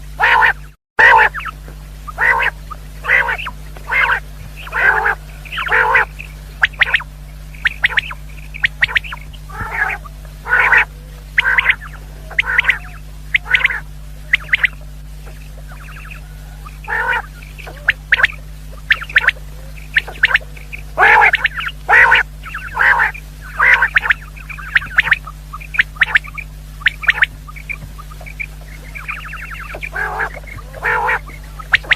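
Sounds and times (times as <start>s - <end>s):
low electrical hum: 0.0s - 31.9s
quail calling: 0.0s - 31.9s.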